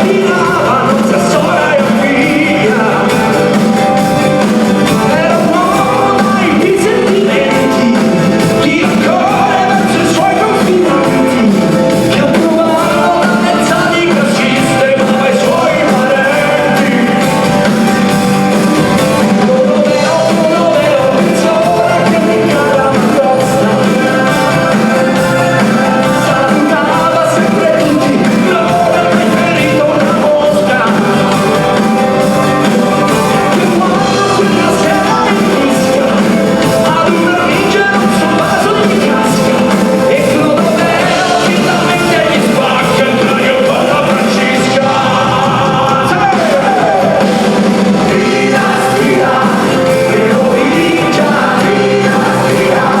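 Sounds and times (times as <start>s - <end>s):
person singing: 0.0s - 53.0s
rock band playing live: 0.0s - 53.0s.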